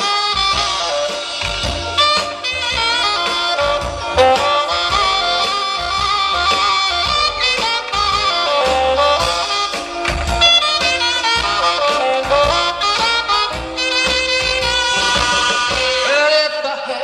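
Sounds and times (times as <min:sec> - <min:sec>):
saxophone melody: 0:00.0 - 0:16.7
rock and roll band playing: 0:00.0 - 0:17.0.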